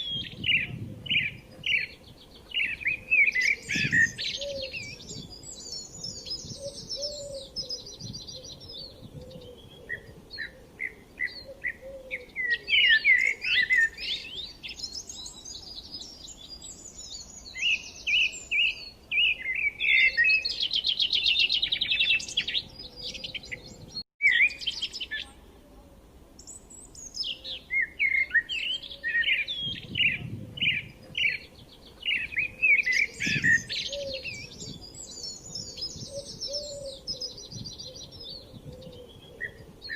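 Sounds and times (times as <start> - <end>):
songbirds chirping and singing: 0.0 - 25.4, 26.3 - 39.9.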